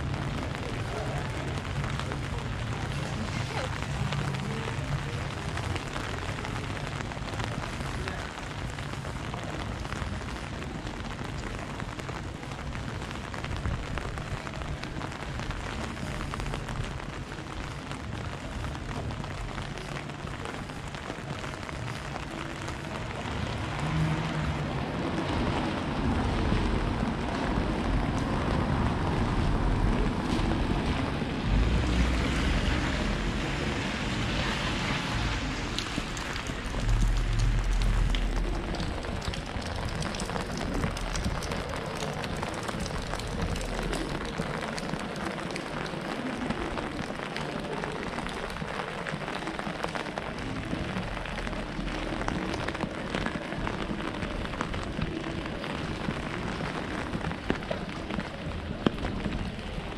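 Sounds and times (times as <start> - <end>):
rain on an umbrella: 0.0 - 59.9.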